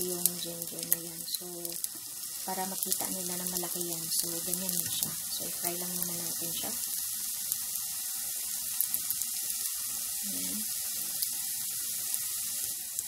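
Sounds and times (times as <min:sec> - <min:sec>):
oil sizzling in frying pan: 0:00.0 - 0:13.0.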